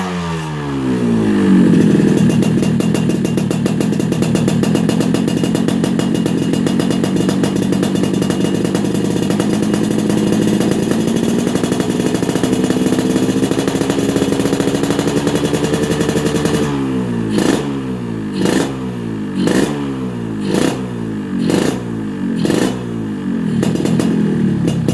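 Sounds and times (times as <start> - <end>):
two-stroke motorcycle engine revving: 0.0 - 24.9.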